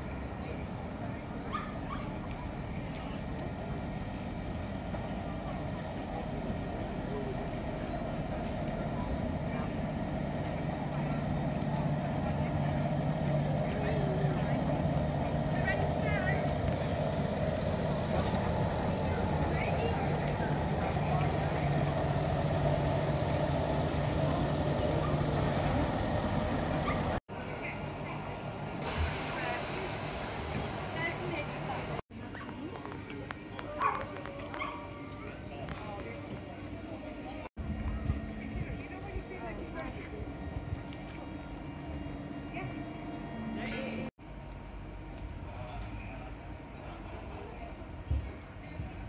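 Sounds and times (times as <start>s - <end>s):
faint voices: 0.0s - 44.1s
locomotives rumbling: 0.0s - 44.1s.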